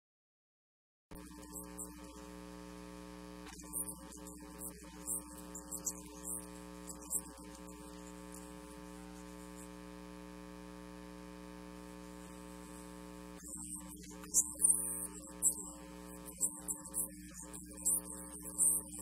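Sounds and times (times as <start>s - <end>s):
electrical mains hum: 1.2s - 19.0s.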